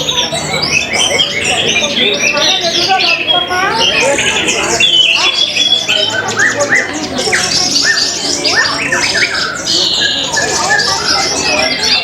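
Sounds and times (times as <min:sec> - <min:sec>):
thrushes singing: 0:00.0 - 0:12.0.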